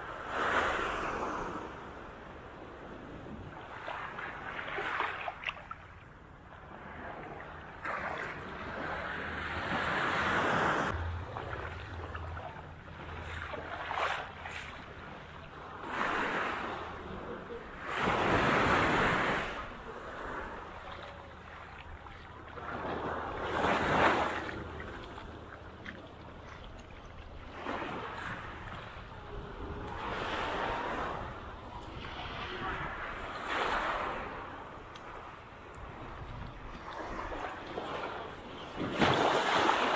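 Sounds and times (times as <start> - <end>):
small waves breaking: 0.0 - 39.9.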